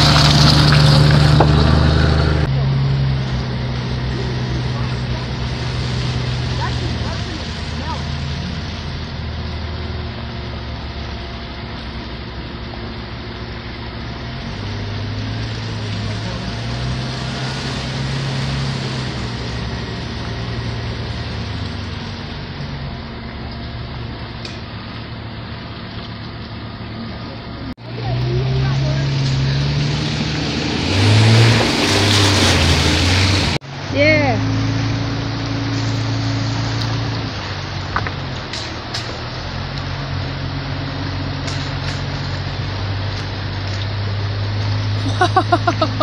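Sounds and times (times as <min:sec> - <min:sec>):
engine running at low revs: 0:00.0 - 0:46.0.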